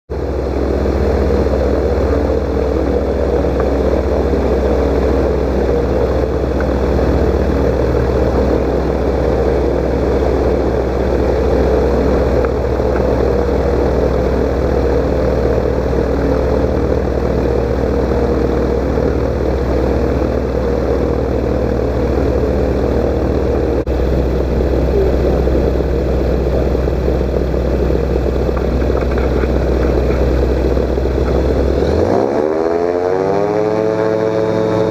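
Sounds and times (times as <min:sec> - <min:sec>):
aircraft engine and propeller: 0:00.1 - 0:34.9.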